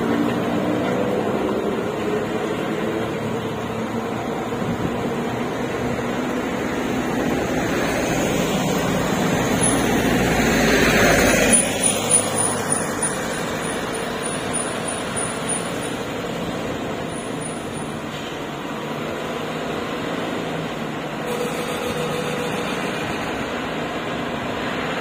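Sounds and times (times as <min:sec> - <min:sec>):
truck engines running: 0:00.0 - 0:25.0
tyre and road noise: 0:00.0 - 0:25.0.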